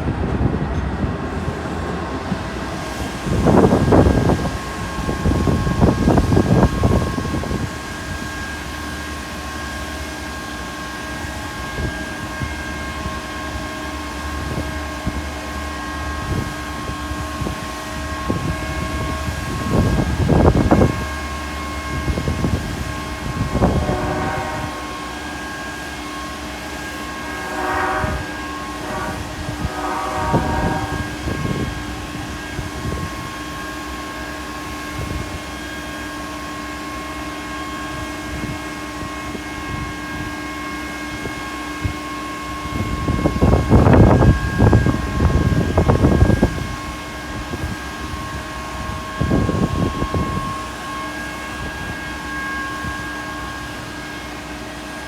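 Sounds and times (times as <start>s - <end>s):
train equipment whine: 0.0s - 55.0s.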